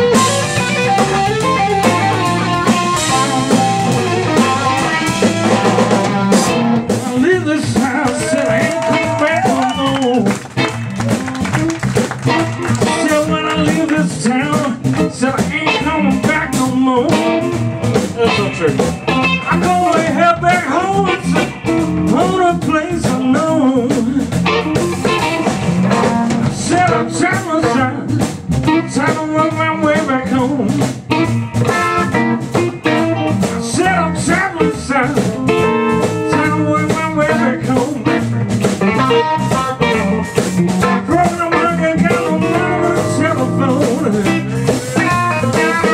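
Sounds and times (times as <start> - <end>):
drum kit: 0.0 - 45.9
electric guitar: 0.0 - 45.9.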